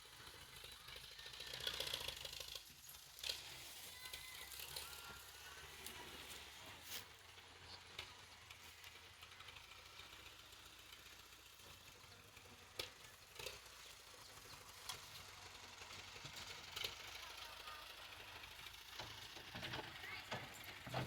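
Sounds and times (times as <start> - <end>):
tractor engine humming: 0.0 - 21.0.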